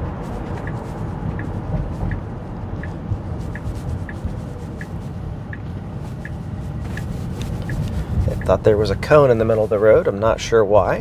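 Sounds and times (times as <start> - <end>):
road noise rumble: 0.0 - 11.0
turn signal ticking: 0.0 - 11.0.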